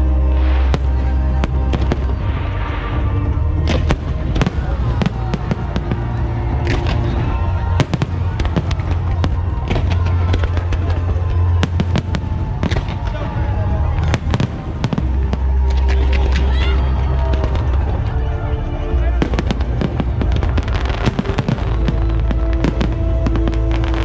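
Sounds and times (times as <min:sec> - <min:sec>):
deep rumble: 0:00.0 - 0:24.0
fireworks bangs and crackles: 0:00.0 - 0:24.0
music playing: 0:00.0 - 0:24.0.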